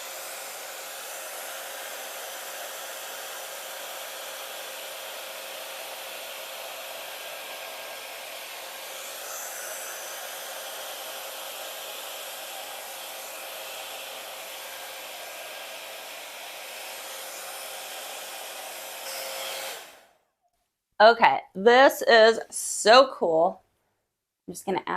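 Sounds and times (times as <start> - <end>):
hair dryer blowing: 0.0 - 20.2.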